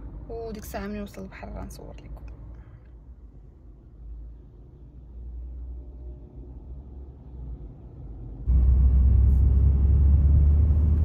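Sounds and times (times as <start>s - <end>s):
car engine rumble from inside: 0.0s - 11.0s
road noise: 0.0s - 11.0s.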